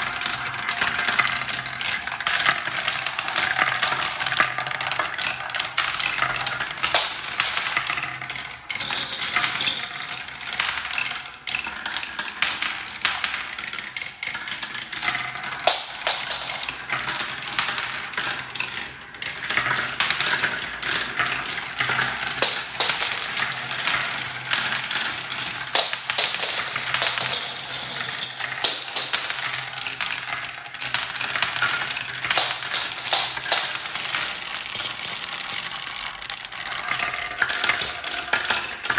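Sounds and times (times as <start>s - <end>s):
marbles clattering through plastic run: 0.0s - 38.9s.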